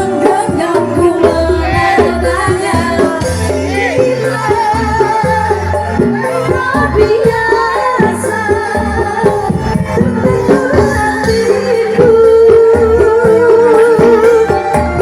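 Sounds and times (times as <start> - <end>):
percussion: 0.0 - 15.0.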